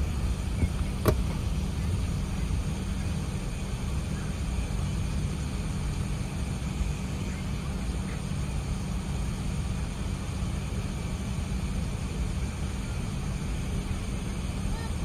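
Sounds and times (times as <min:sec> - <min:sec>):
airliner cabin low rumble: 0:00.0 - 0:15.0
engine and airflow hiss: 0:00.0 - 0:15.0.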